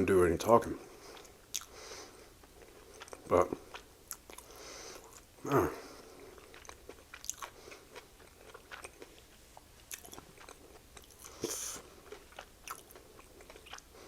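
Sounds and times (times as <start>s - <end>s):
wet mouth chewing clicks: 1.1s - 1.8s, 2.4s - 5.3s, 6.2s - 14.0s.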